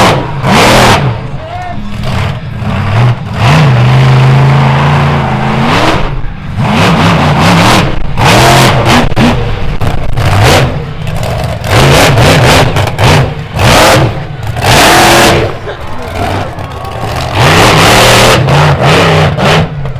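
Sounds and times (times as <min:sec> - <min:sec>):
monster truck engine revving: 0:00.0 - 0:19.9.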